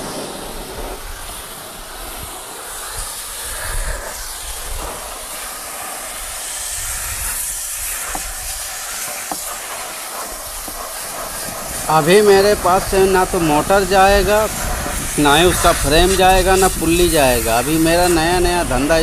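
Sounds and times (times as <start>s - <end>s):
pressure washer jet hissing: 0.0s - 19.0s.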